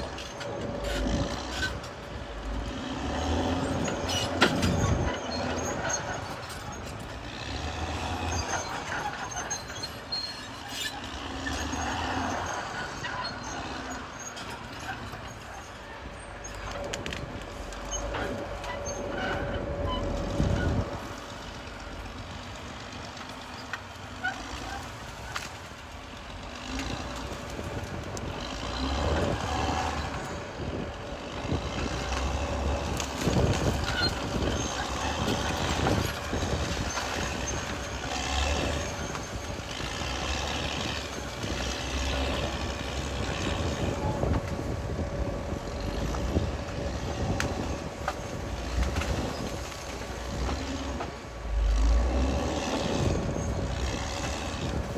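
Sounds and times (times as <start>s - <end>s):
bulldozer diesel engine rumbling: 0.0s - 54.9s.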